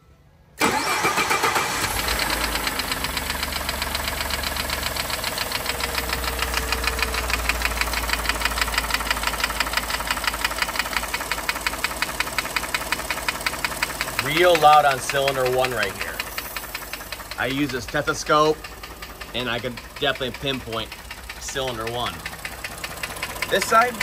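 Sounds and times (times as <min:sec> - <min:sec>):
engine idling: 0:00.6 - 0:24.0
rapid valve train tapping: 0:02.3 - 0:24.0.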